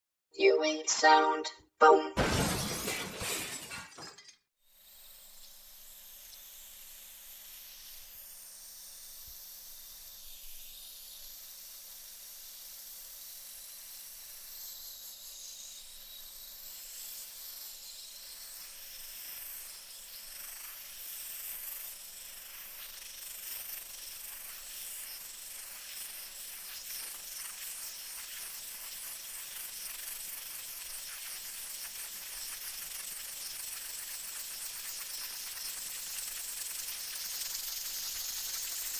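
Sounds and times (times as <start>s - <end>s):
pressure cooker steam hiss: 4.8s - 38.9s.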